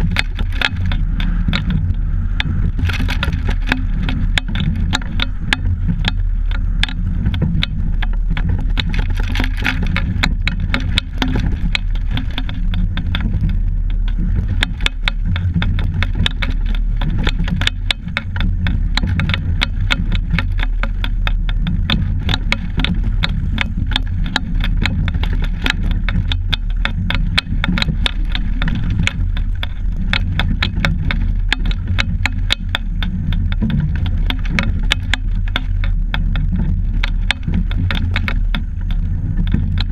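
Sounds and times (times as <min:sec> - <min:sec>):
rattle of clicks: 0:00.0 - 0:39.9
wind and water rumble: 0:00.0 - 0:39.9.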